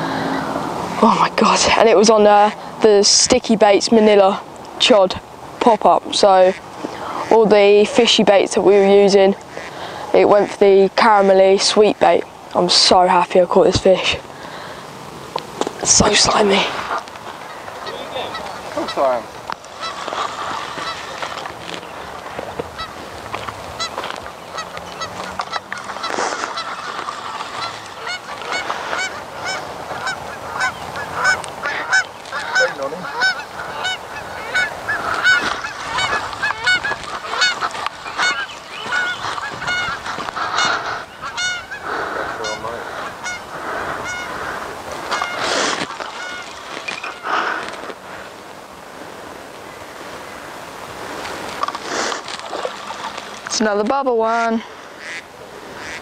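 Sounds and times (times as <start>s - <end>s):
geese honking: 4.9s - 13.3s, 15.7s - 48.4s, 51.4s - 56.0s.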